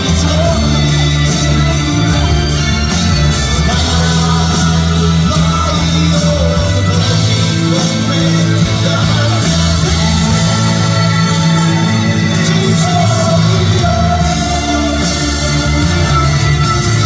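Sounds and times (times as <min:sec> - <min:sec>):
backing music with bass line: 0:00.0 - 0:17.0
man singing into microphone: 0:00.0 - 0:17.0.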